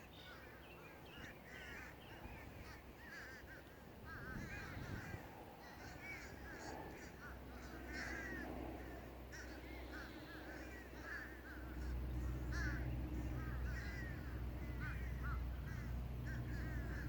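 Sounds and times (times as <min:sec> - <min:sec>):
low steady rumble: 0:00.0 - 0:17.0
crows cawing: 0:00.2 - 0:17.0.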